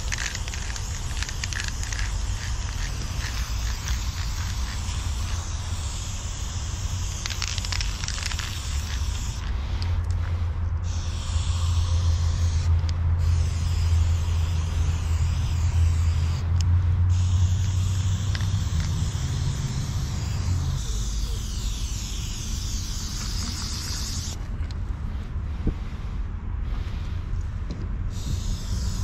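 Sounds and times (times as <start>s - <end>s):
spray-paint can hissing: 0.0s - 10.1s, 10.8s - 24.4s, 28.1s - 29.0s
steady low rumble: 0.0s - 29.0s.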